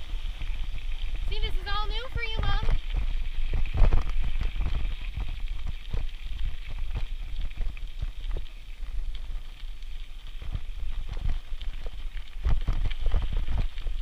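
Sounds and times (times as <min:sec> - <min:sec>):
bicycle rattling on rough trail: 0:00.0 - 0:14.0
wind rumble on microphone: 0:00.0 - 0:14.0.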